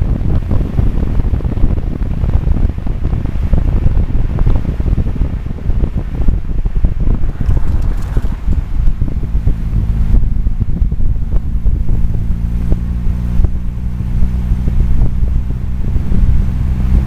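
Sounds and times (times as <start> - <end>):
car engine running: 0.0 - 17.0
wind buffeting microphone: 0.0 - 17.0.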